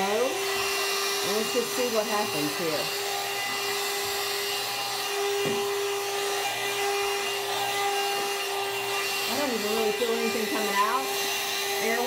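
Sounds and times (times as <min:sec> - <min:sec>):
hair dryer brush whirring: 0:00.0 - 0:12.0.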